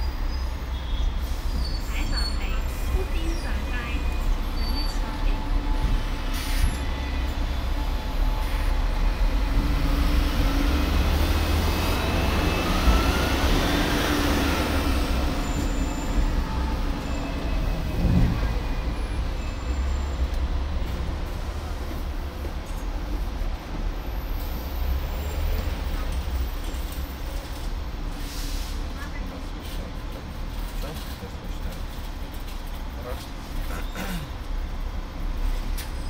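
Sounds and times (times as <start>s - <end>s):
city traffic: 0.0s - 36.0s
tram rumbling on track: 0.0s - 36.0s.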